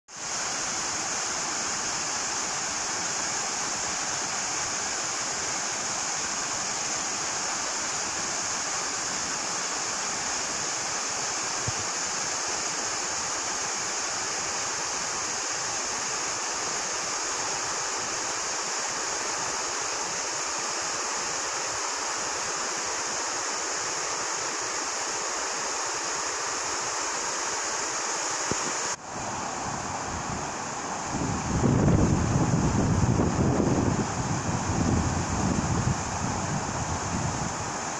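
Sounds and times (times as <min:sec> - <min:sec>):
water rushing over weir: 0:00.1 - 0:37.9.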